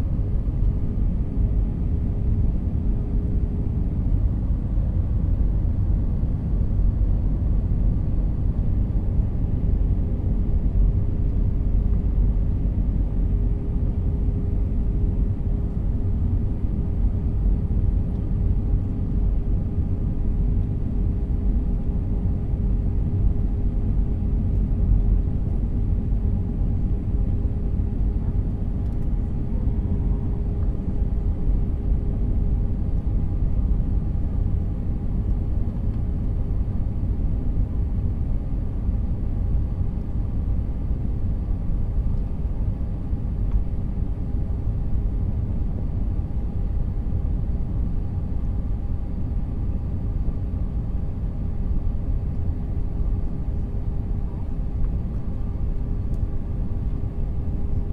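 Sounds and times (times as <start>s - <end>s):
constant hum: 0.0s - 57.9s
jet airliner cabin rumble: 0.0s - 57.9s.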